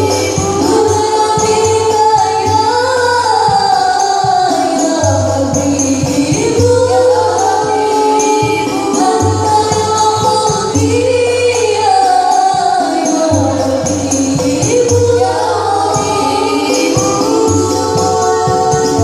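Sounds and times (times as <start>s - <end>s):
group of voices singing: 0.0s - 19.0s
jingling tambourine: 0.0s - 19.0s
steady percussion: 0.0s - 19.0s.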